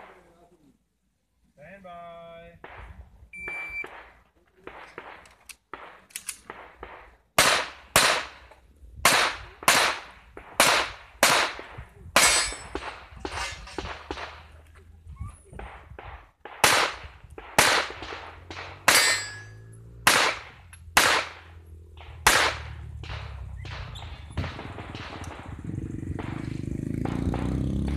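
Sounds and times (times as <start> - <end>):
faint distant gunshots: 2.6 - 14.6, 15.5 - 27.9
loud gunshots with echo: 3.8 - 14.6, 15.6 - 27.9.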